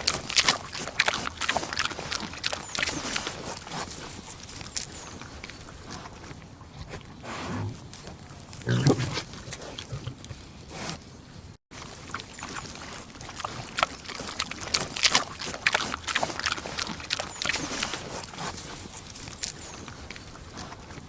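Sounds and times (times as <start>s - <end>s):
pig chewing and munching: 0.0s - 21.0s.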